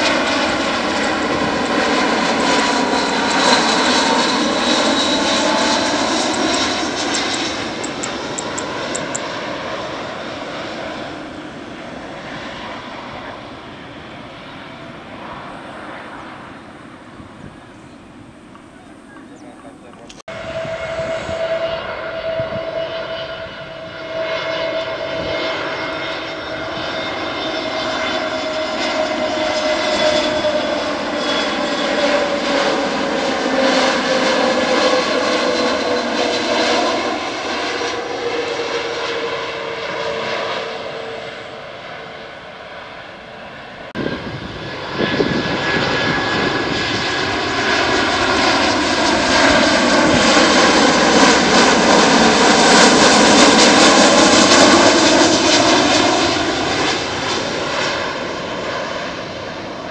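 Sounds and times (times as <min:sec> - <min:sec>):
jet engines whining overhead: 0:00.0 - 0:59.9.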